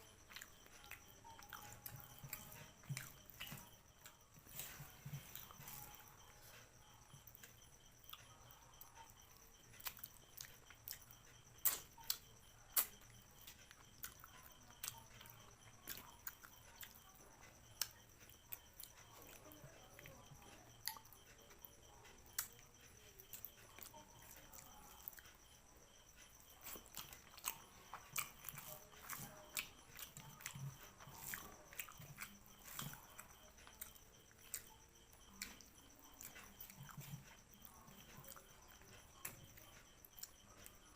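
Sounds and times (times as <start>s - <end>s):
person chewing: 0.0s - 17.0s, 20.8s - 25.4s, 26.1s - 40.9s.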